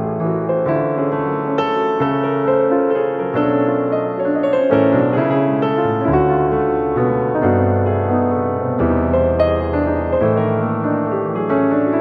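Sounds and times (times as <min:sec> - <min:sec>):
calm piano music: 0:00.0 - 0:12.0.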